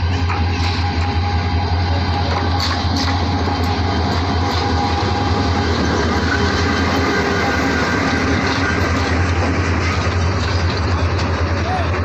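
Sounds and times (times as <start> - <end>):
diesel locomotive passing: 0.0 - 12.0
train coaches rolling on rails: 0.0 - 12.0.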